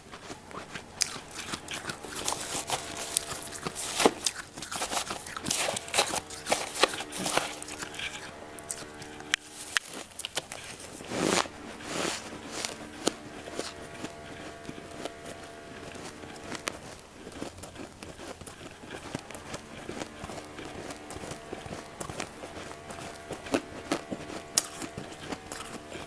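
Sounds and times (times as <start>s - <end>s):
chewing crunchy frost: 0.0s - 26.0s.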